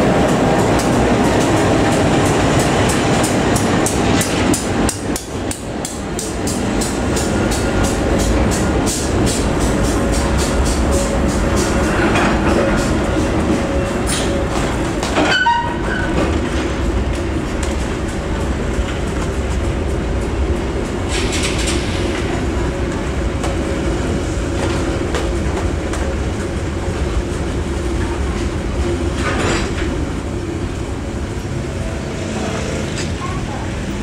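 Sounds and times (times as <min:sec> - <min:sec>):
train wheels rumbling and clicking: 0:00.0 - 0:34.0.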